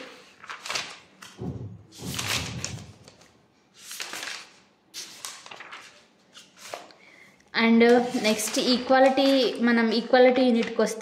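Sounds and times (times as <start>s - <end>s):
book pages turning: 0.0s - 7.0s, 7.8s - 9.7s.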